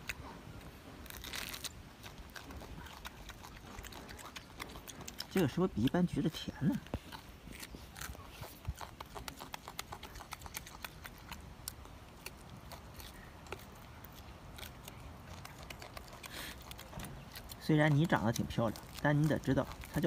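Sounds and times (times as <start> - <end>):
monkey chewing and lip smacking: 0.0 - 20.0.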